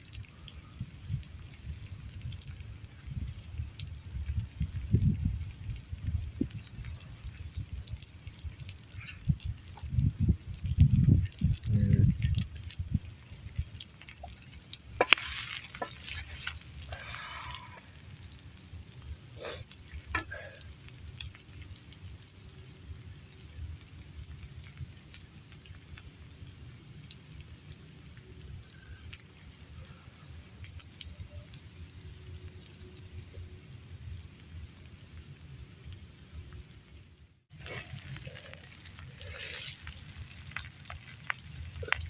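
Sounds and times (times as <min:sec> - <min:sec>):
food frying over campfire: 0:00.0 - 0:42.0.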